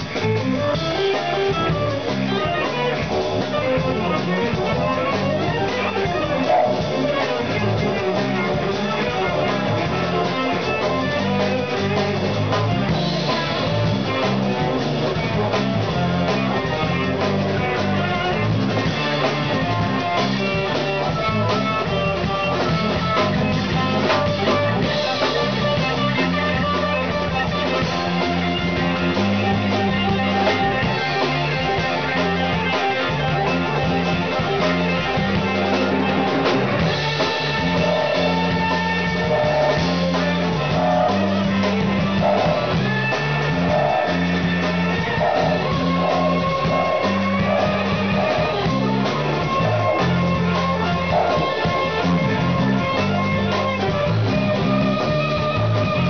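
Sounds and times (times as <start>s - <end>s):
bass guitar: 0.0s - 56.0s
drum kit: 0.0s - 56.0s
electric guitar: 0.0s - 56.0s
held horn notes: 0.0s - 56.0s.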